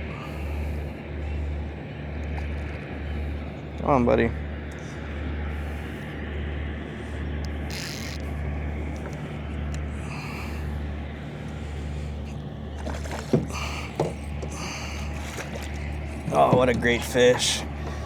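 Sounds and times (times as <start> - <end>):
low engine drone of barge: 0.0 - 18.0.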